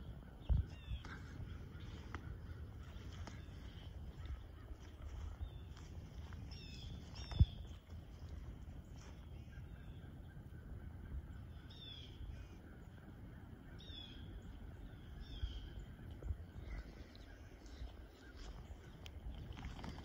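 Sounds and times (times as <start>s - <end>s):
birds calling: 0.0s - 20.0s
low rumble: 0.0s - 20.0s.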